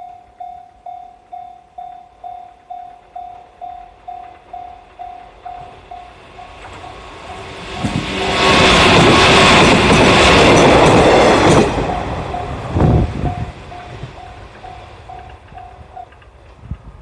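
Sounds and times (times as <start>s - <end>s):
crossing warning bell ringing: 0.0s - 16.4s
train wheels clattering: 1.8s - 16.8s.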